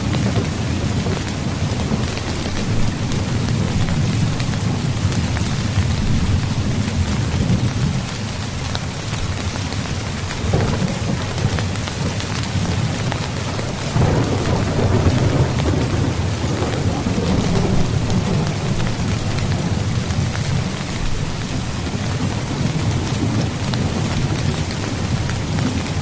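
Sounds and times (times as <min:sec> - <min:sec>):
low rumble of thunder: 0:00.0 - 0:26.0
rain falling on a tent: 0:00.0 - 0:26.0
raindrop ticks: 0:00.0 - 0:26.0.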